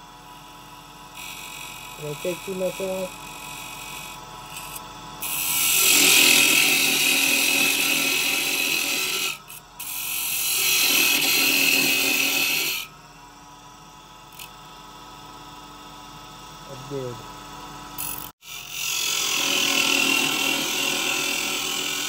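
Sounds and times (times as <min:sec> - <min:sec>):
chisel cutting spinning wood: 0:00.0 - 0:22.0
lathe motor hum: 0:00.0 - 0:22.0.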